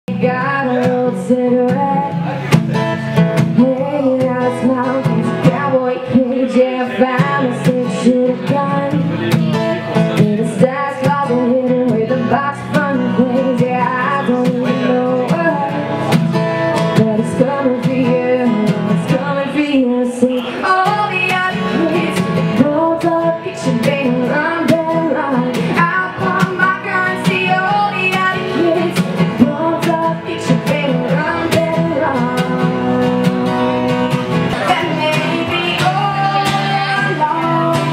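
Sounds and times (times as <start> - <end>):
woman singing: 0.1 - 2.4, 3.4 - 37.9
strummed acoustic guitar: 0.1 - 37.9.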